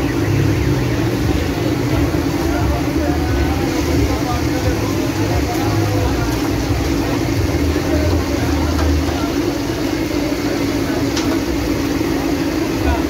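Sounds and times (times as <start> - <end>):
chicken deep-frying in bubbling oil: 0.0 - 13.0.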